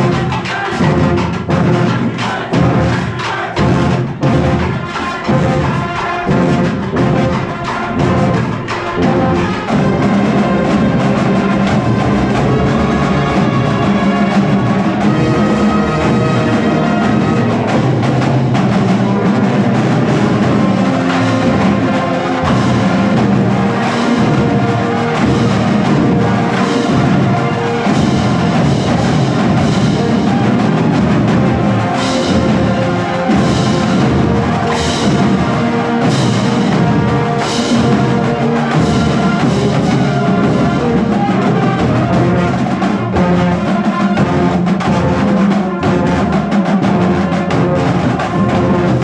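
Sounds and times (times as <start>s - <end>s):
held wind and brass notes: 0.0s - 49.0s
school band playing: 0.0s - 49.0s
steady drum beat: 0.0s - 49.0s.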